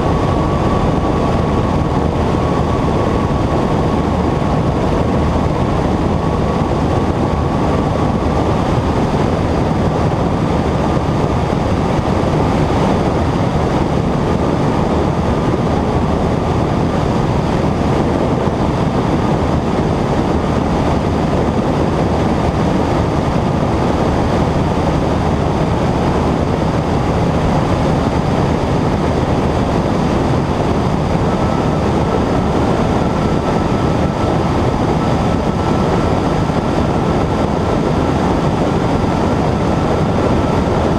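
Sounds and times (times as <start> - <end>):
light plane engine droning: 0.0 - 40.9.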